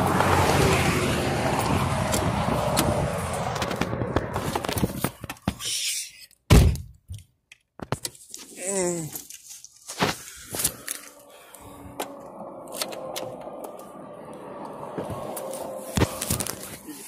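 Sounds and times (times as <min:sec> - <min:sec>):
highway traffic noise: 0:00.0 - 0:06.1, 0:09.1 - 0:17.0.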